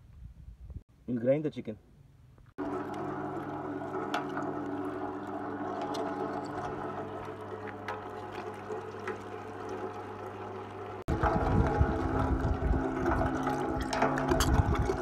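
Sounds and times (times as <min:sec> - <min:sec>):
meat grinder motor humming: 0:02.6 - 0:15.0.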